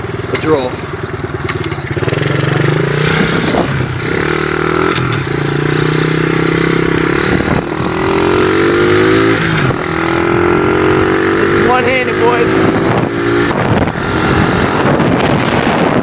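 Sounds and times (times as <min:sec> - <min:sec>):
dirt bike engine shifting gears: 0:00.0 - 0:16.0.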